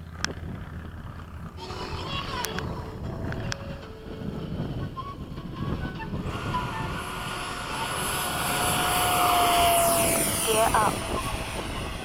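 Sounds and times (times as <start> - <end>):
electric ducted fan whine: 0.0 - 12.0.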